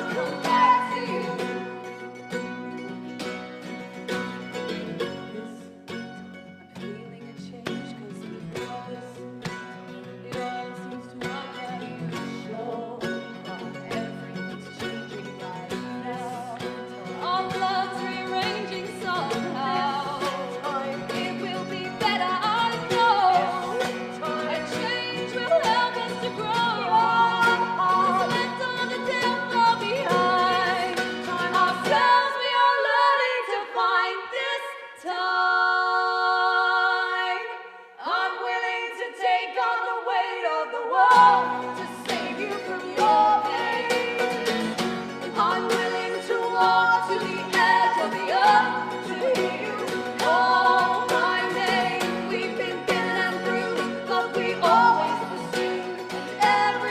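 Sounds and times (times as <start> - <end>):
guitar accompaniment: 0.0 - 32.9, 40.9 - 56.9
person singing: 0.0 - 56.9.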